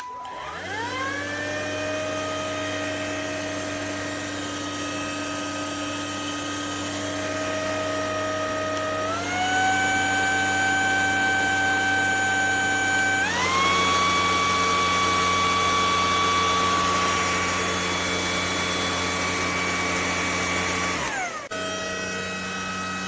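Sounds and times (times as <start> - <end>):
stick vacuum motor whine: 0.0 - 23.0.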